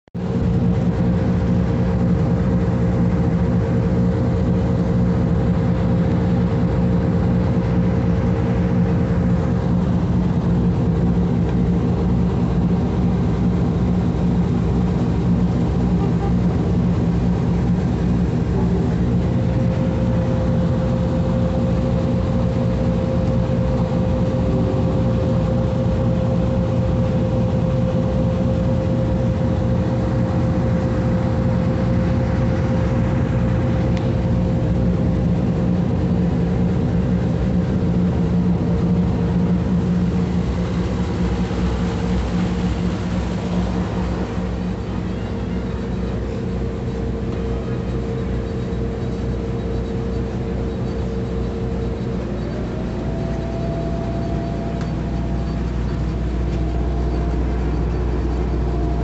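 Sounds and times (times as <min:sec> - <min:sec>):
boat engine mechanical drone: 0:00.1 - 0:59.0
steady hum: 0:00.2 - 0:59.0.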